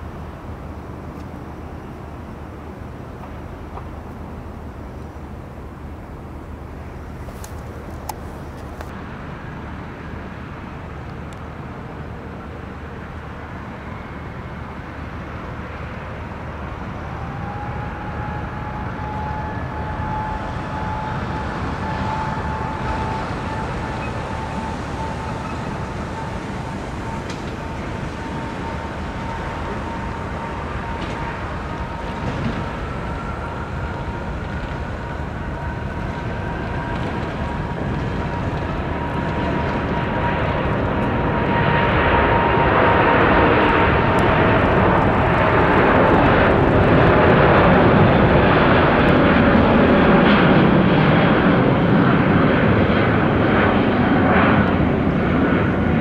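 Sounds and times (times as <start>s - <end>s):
jet engine whine rising: 0.0s - 56.0s
jet engines rumbling: 0.0s - 56.0s.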